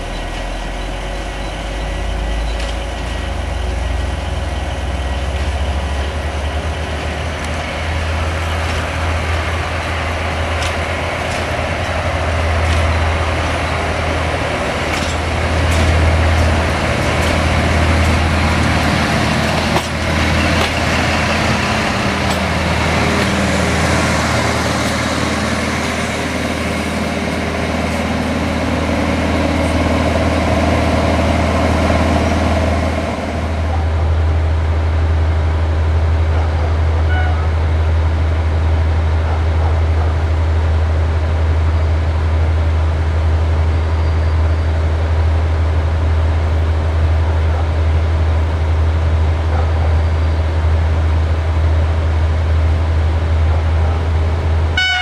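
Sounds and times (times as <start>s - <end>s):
locomotive engine drone: 0.0s - 55.0s.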